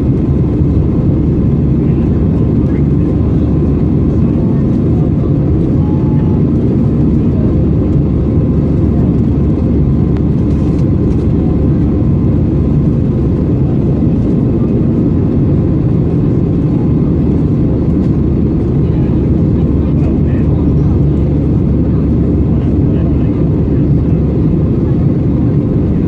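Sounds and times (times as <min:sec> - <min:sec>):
airplane cabin engine rumble: 0:00.0 - 0:26.0.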